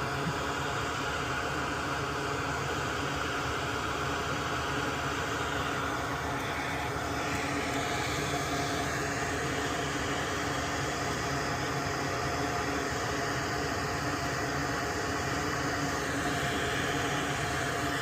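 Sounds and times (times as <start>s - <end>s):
faint hum: 0.0s - 18.0s
whooshing fan noise: 0.0s - 18.0s.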